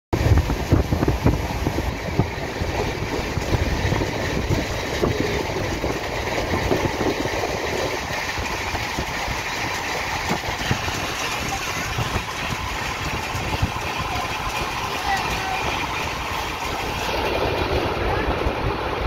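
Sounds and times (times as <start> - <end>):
wheels rumbling and rattling on rails: 0.1 - 19.0.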